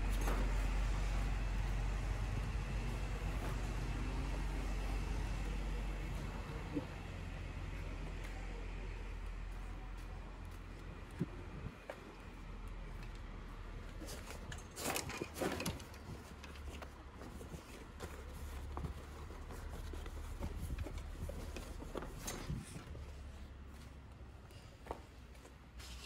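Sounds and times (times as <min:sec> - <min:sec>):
light footsteps: 0:00.0 - 0:14.8, 0:16.1 - 0:26.0.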